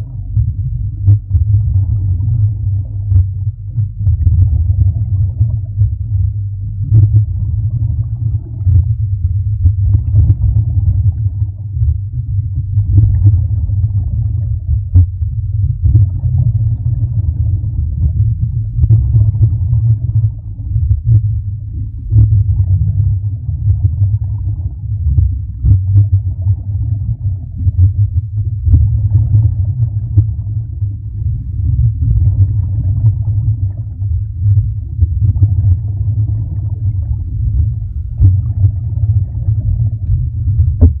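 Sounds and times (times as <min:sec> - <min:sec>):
underwater rumble: 0:00.0 - 0:41.0.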